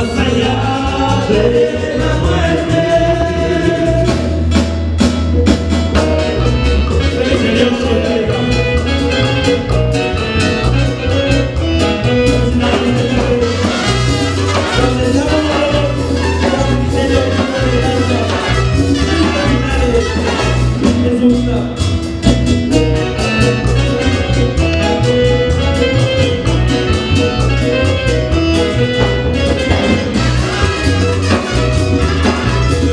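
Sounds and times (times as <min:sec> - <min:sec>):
salsa band music: 0:00.0 - 0:32.9.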